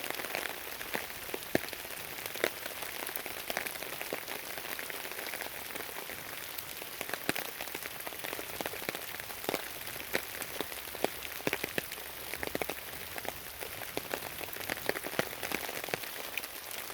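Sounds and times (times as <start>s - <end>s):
sharp ticks of raindrops striking: 0.0s - 16.9s
steady rain falling: 0.0s - 16.9s.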